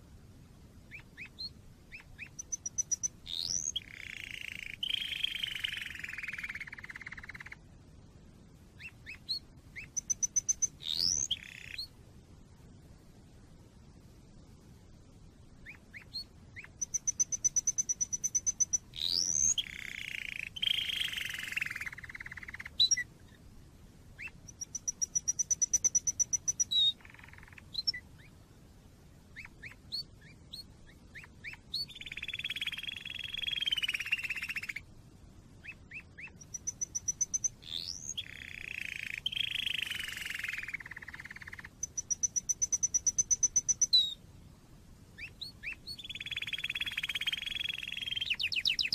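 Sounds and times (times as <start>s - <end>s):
canary singing: 0.9s - 7.6s, 8.8s - 11.9s, 15.6s - 23.1s, 24.2s - 28.3s, 29.4s - 34.8s, 35.6s - 44.2s, 45.2s - 48.9s.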